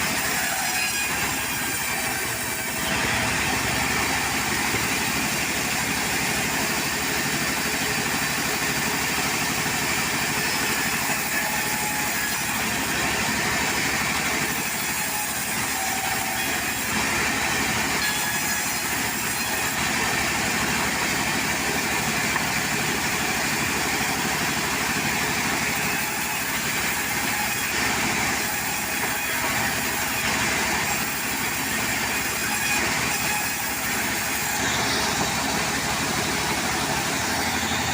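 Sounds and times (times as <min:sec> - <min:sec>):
sawmill engine running: 0:00.0 - 0:37.9.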